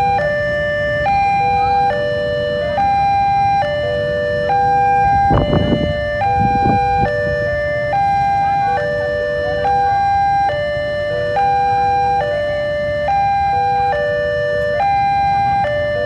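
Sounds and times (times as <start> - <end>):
level crossing electronic alarm: 0.0 - 16.0
low rumbling traffic: 0.0 - 16.0.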